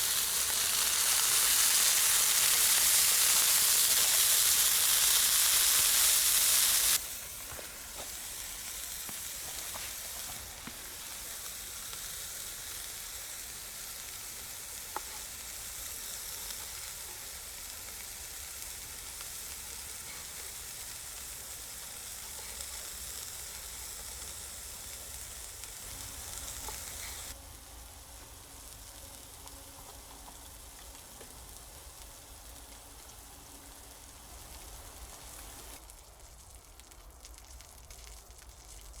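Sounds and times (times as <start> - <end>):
burger patty sizzling in a pan: 0.0 - 39.0.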